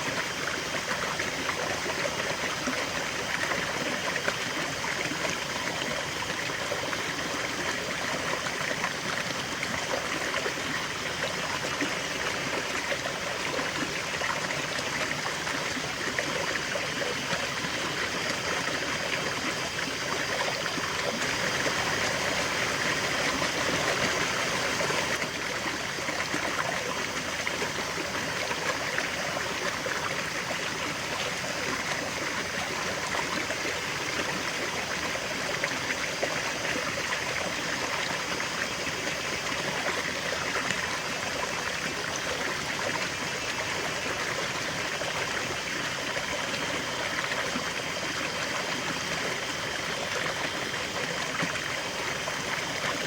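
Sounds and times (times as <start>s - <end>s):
river flowing: 0.0s - 53.0s.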